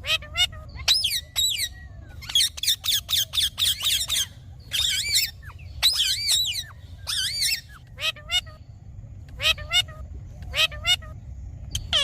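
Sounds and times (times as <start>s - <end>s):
parakeet calling: 0.0s - 12.0s.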